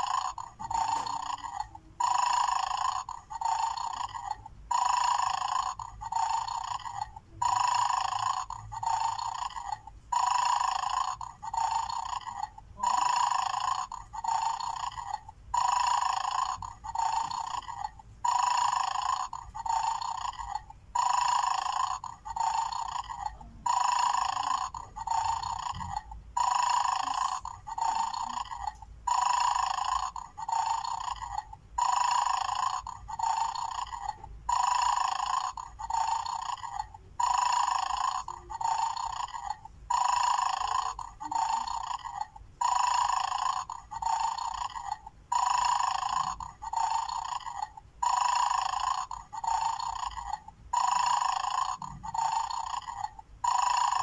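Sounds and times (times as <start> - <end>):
toy snoring through tinny speaker: 0.0 - 54.0.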